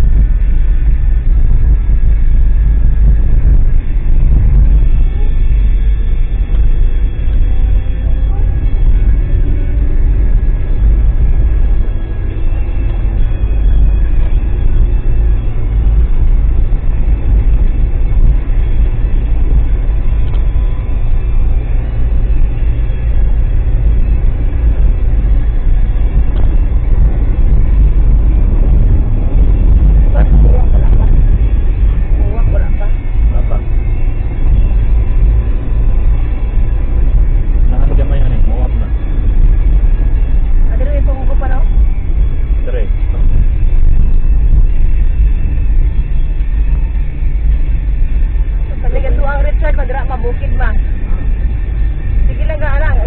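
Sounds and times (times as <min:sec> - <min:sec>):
faint engine hum: 0:00.0 - 0:53.0
vehicle low rumble: 0:00.0 - 0:53.0.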